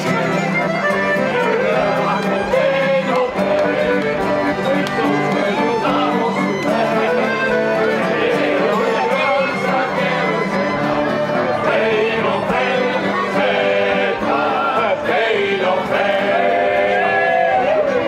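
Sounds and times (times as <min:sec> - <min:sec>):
instruments playing: 0:00.0 - 0:18.0
men singing together: 0:01.5 - 0:18.0.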